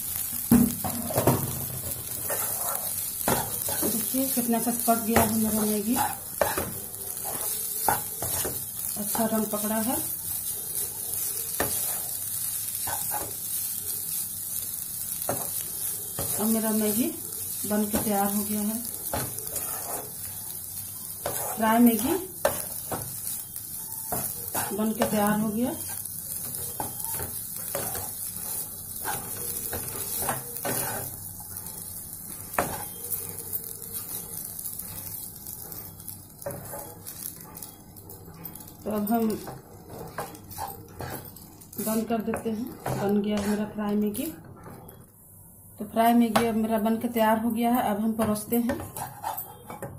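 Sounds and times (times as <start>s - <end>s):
noodles sizzling in pan: 0.0s - 44.4s, 45.1s - 49.9s
spatula scraping pan: 0.8s - 13.6s, 15.2s - 17.0s, 17.7s - 31.8s, 32.5s - 37.8s, 38.5s - 45.0s, 48.2s - 49.9s.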